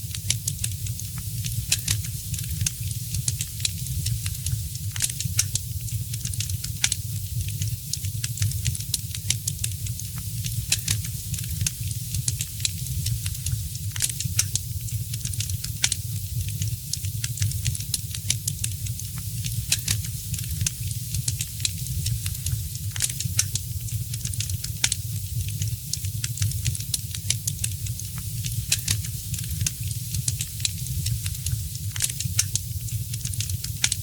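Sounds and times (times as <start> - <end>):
wood fire crackling: 0.1 - 34.0.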